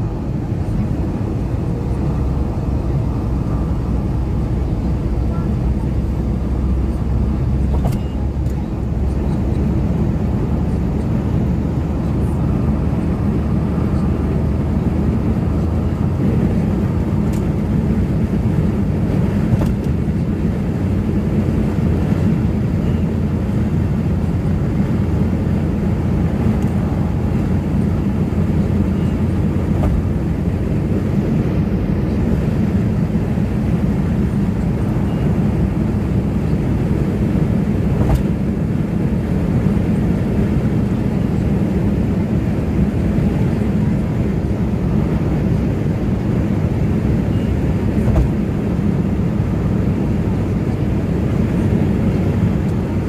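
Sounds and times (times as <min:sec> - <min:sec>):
car cabin road rumble: 0:00.0 - 0:53.0.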